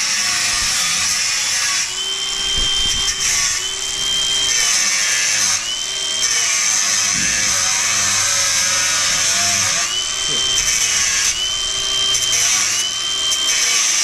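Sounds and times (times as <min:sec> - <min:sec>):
angle grinder grinding metal: 0:00.0 - 0:14.0.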